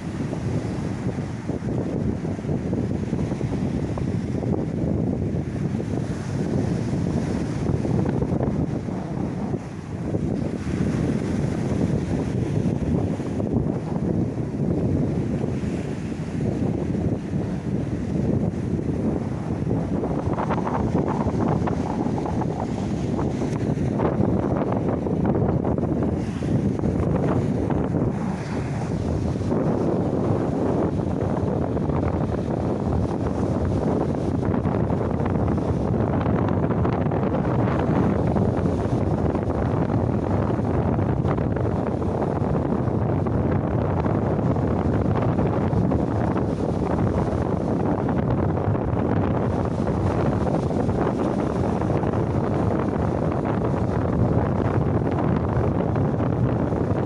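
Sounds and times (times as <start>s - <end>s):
sea waves washing on shore: 0.0s - 57.0s
wind buffeting microphone: 0.0s - 57.0s.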